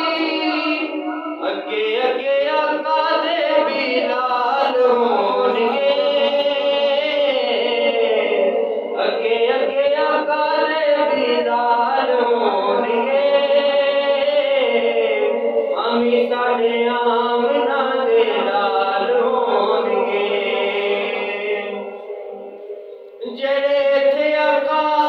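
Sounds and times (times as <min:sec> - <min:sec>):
man singing unaccompanied: 0:00.0 - 0:25.0.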